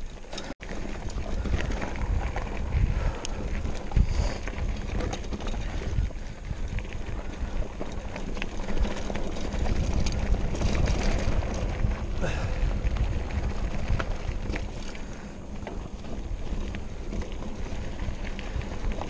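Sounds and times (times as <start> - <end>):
bike clicks and rattles: 0.0 - 19.0
wind rumbling on microphone: 0.0 - 19.0.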